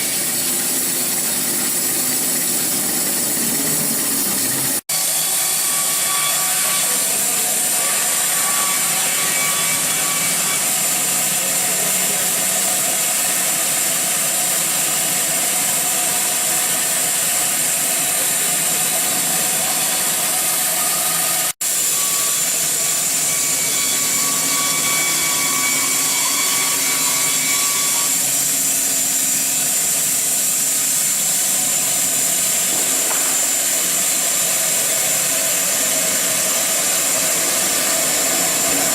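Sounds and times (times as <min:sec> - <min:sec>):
bandsaw mill running with a hiss: 0:00.0 - 0:38.9.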